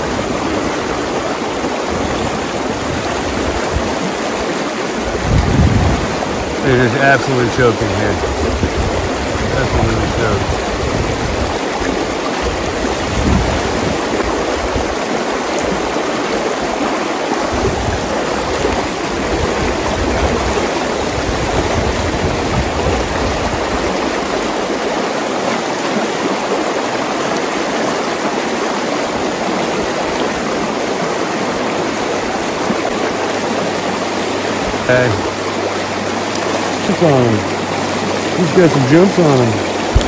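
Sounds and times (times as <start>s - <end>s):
stream rushing over rocks: 0.0s - 40.0s.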